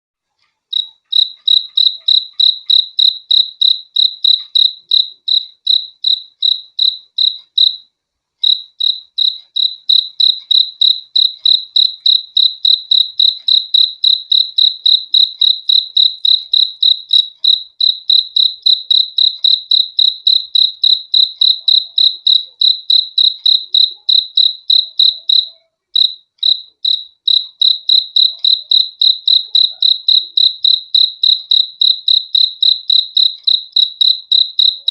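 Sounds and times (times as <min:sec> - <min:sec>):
cricket chirping: 0:00.7 - 0:34.9.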